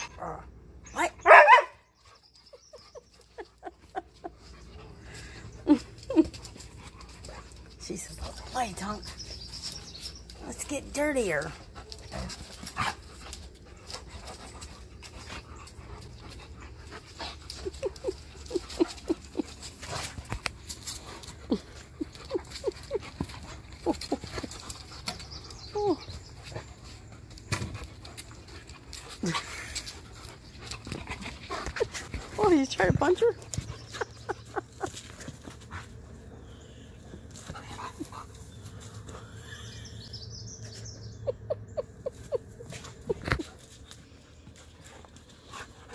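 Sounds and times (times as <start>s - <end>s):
dogs panting and scuffling: 1.9s - 45.9s.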